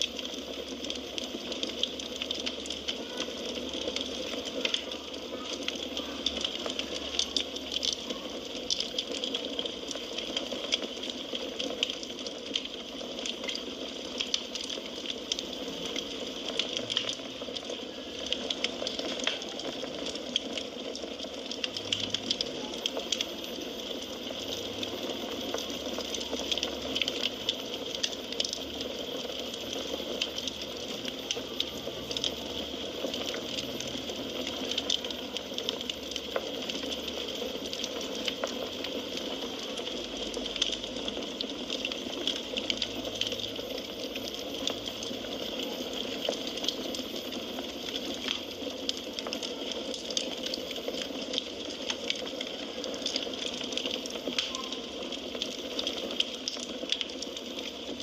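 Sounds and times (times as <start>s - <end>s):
firewood burning: 0.0s - 58.0s.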